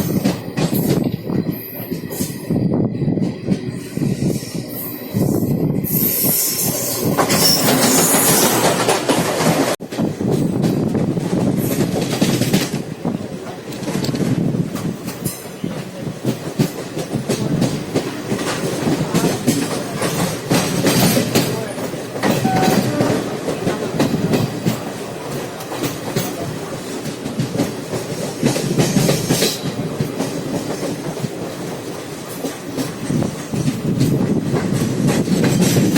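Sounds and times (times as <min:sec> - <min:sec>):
train rumble: 0:00.0 - 0:35.9.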